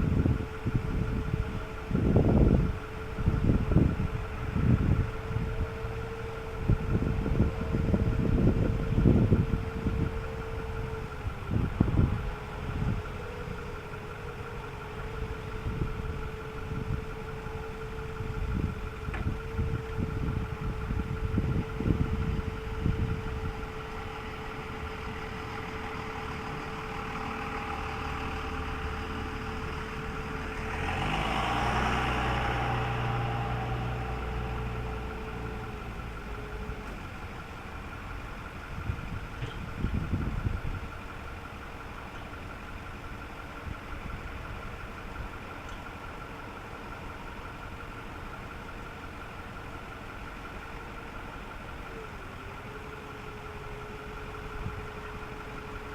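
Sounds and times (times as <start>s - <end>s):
steady whine: 0.0s - 55.9s
truck engine idling: 0.0s - 55.9s.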